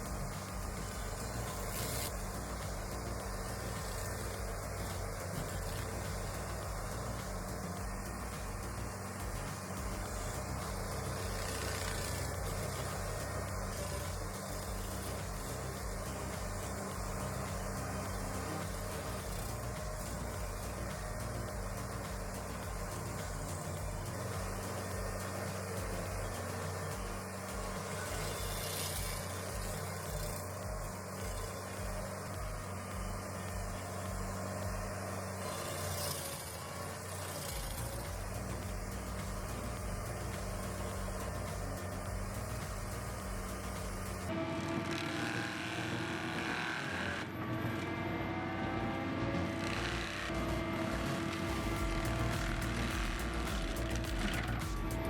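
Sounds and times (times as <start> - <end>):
stump grinder engine running: 0.0 - 55.0.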